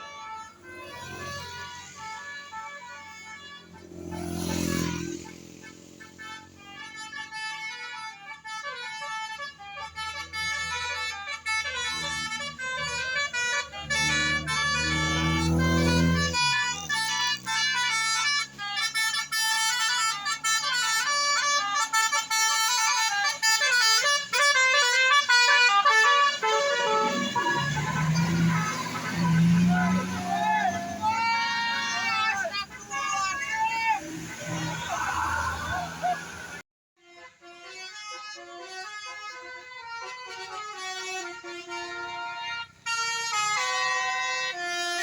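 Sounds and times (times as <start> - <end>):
multi-trumpet air horn tune: 0.0 - 45.0.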